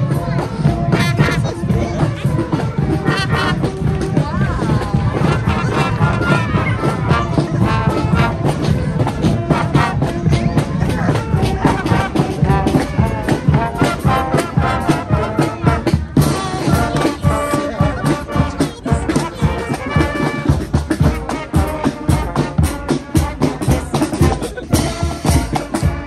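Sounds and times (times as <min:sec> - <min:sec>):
brass instruments playing a tune: 0:00.0 - 0:26.0
steady drum beat: 0:00.0 - 0:26.0.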